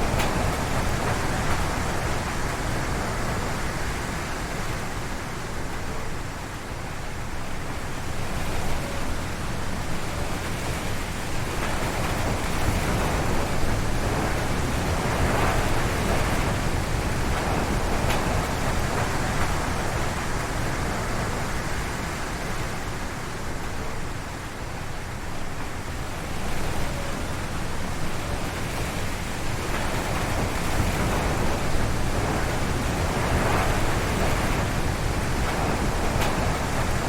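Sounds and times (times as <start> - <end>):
strong wind through trees: 0.0 - 37.0.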